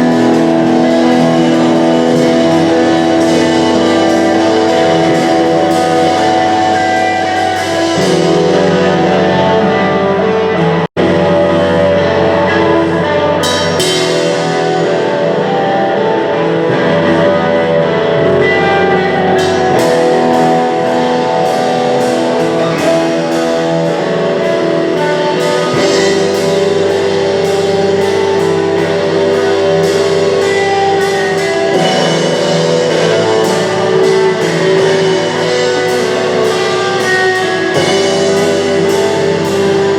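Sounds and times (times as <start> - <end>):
cymbals struck: 0.0 - 9.7, 11.2 - 39.9
punk rock band playing live: 0.0 - 39.9.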